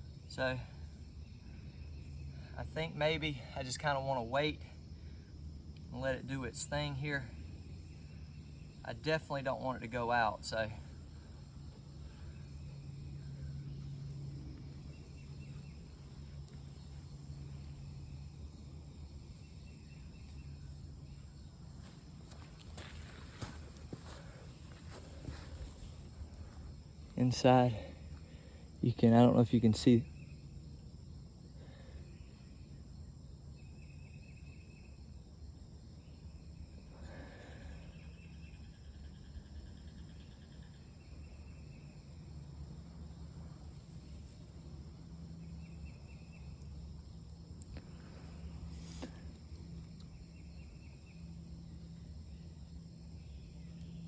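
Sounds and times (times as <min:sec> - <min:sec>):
faint insect trills: 0:00.0 - 0:54.0
low outdoor rumble: 0:00.0 - 0:54.0
steady low hum: 0:00.0 - 0:54.0.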